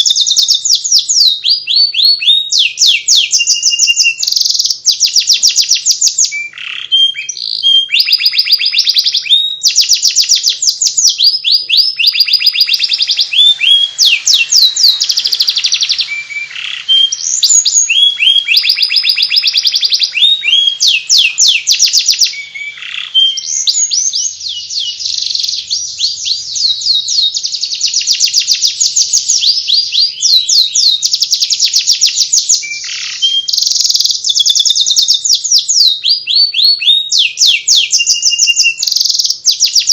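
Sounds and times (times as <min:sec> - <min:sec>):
canary singing high chirps: 0:00.0 - 0:39.9.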